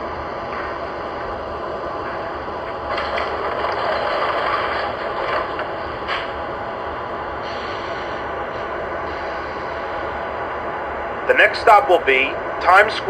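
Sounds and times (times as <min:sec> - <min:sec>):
model train running on track: 0:01.2 - 0:13.0.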